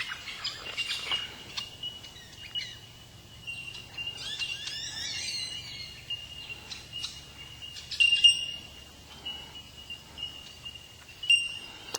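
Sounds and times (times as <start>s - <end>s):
bellbirds calling: 0.0s - 11.9s
high piping tone: 1.5s - 11.9s.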